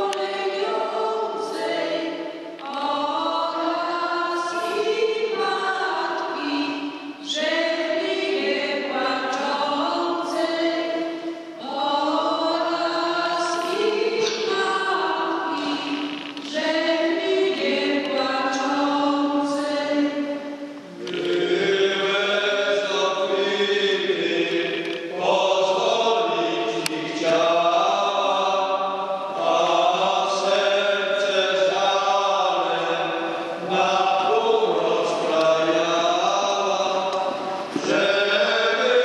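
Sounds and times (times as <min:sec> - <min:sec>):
congregation singing a hymn: 0:00.0 - 0:39.0.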